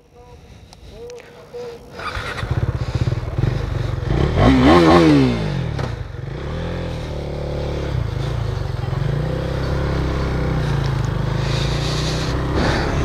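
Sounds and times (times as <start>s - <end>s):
motorcycle engine idling and revving: 0.8s - 13.0s.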